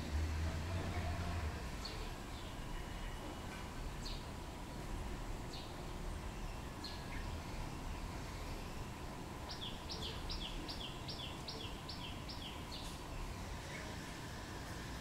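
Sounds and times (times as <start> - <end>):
low background noise: 0.0 - 15.0
songbird chirping: 0.7 - 14.1.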